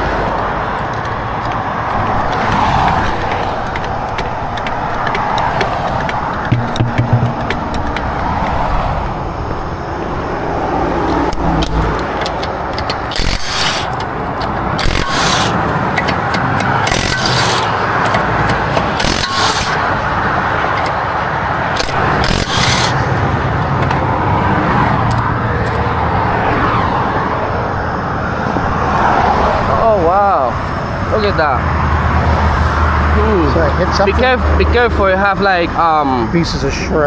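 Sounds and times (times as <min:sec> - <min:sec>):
road traffic noise: 0:00.0 - 0:37.0.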